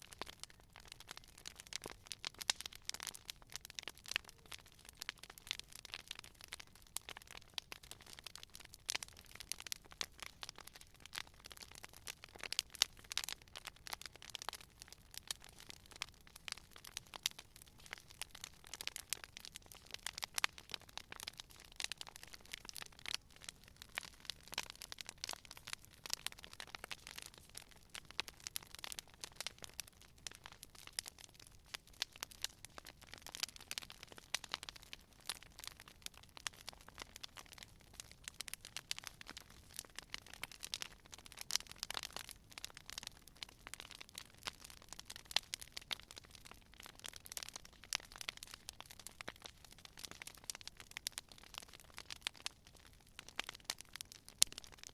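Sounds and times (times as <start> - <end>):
campfire crackling: 0.0 - 54.9.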